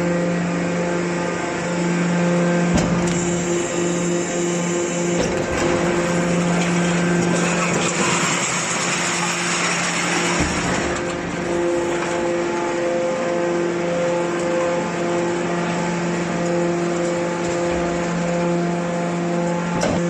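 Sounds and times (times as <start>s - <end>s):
power unit humming: 0.0s - 20.0s.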